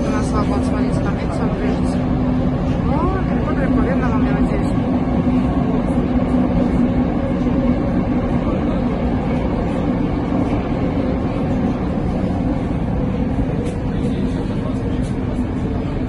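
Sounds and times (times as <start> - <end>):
low hum: 0.0 - 16.0
train wheels rumbling on rail: 0.0 - 16.0.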